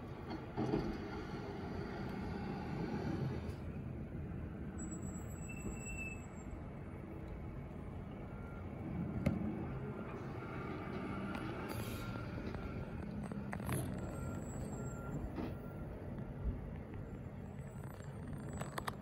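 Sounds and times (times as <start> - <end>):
low vehicle noise: 0.0 - 19.0.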